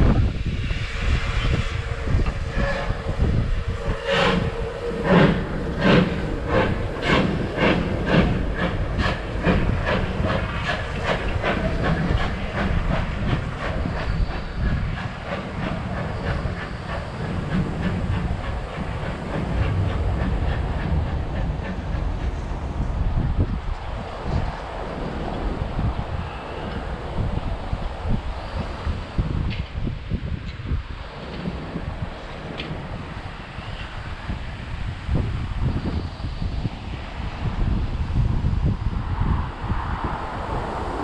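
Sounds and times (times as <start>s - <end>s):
steam locomotive chuffing: 0.0s - 36.5s
steam hissing: 0.0s - 41.0s.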